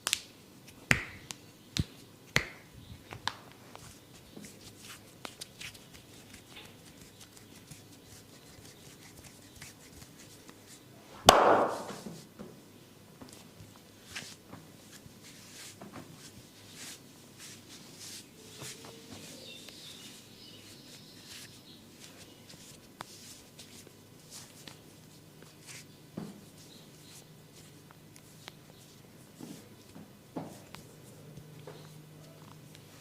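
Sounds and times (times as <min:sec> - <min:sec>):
hands rubbing skin and hair: 0:00.9 - 0:10.9, 0:13.3 - 0:32.9.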